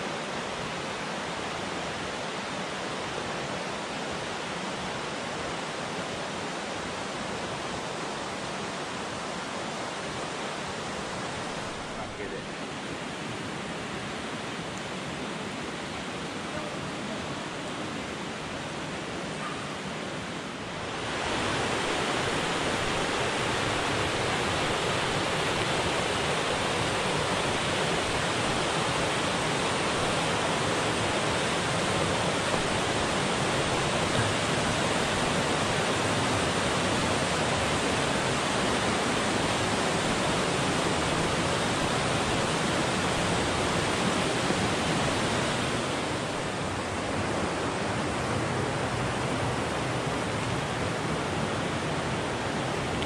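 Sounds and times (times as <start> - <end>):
river rushing over rapids: 0.0 - 53.0.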